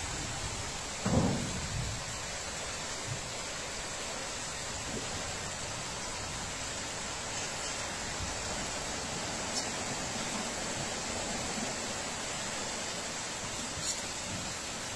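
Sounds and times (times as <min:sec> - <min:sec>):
floodwater flowing: 0:00.0 - 0:14.9
heavy rain downpour: 0:00.0 - 0:14.9.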